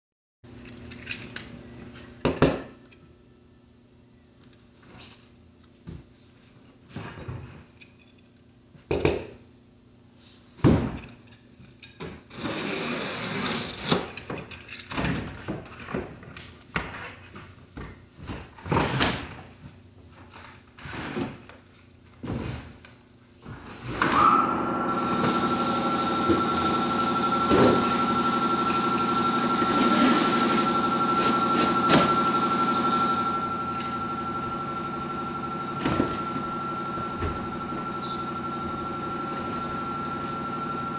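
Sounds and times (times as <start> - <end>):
machine hum with high whine: 0.5 - 40.9.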